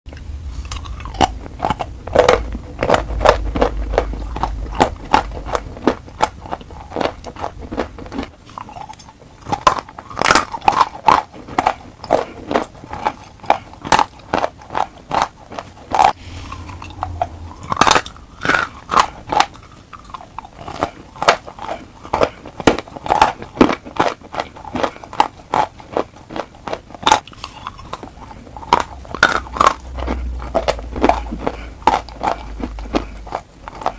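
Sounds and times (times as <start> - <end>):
chewing dry chalk crunches: 0.6 - 33.9.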